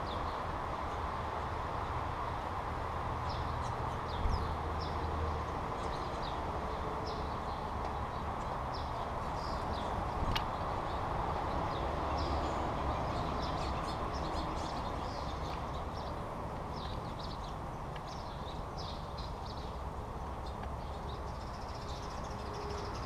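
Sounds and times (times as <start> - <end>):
small birds chirping: 3.2 - 23.0.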